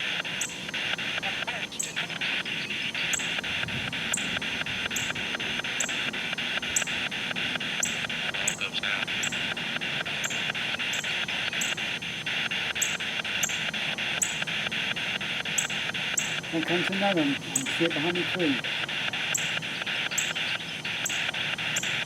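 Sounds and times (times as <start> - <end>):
high chirp: 0.0 - 22.0
radio static chopped by clicks: 0.0 - 22.0.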